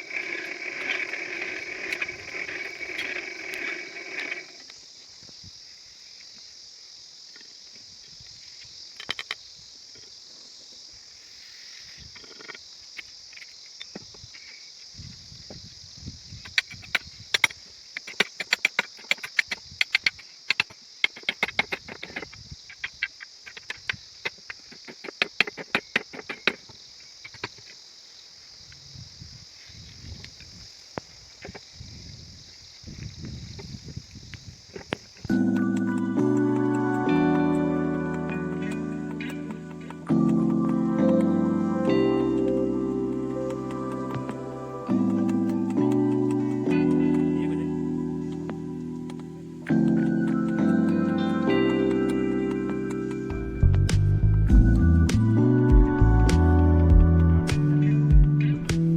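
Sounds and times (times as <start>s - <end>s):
crickets chirring: 0.0s - 58.9s.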